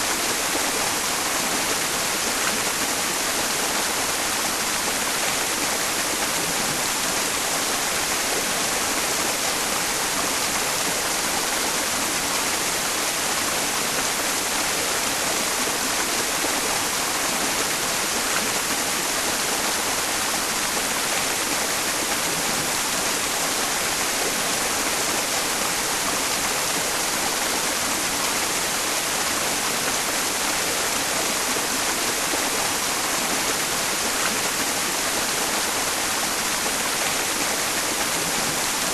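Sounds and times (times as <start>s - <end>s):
stream running: 0.0s - 38.9s
white noise hiss: 0.0s - 38.9s.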